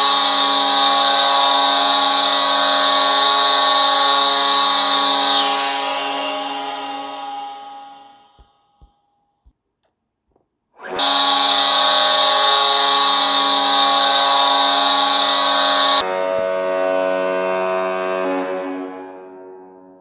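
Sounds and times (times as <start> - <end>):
deep goal horn blast: 0.0 - 8.9, 12.0 - 19.8.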